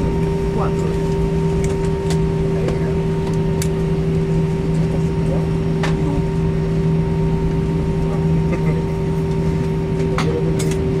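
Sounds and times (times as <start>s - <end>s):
airliner cabin rumble and hum: 0.0s - 11.0s.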